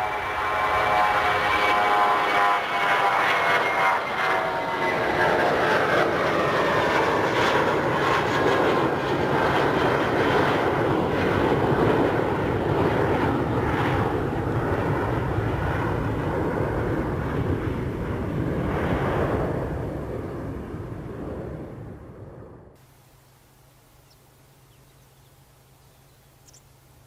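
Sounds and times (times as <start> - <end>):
jet airliner engine rumble: 0.0 - 27.0.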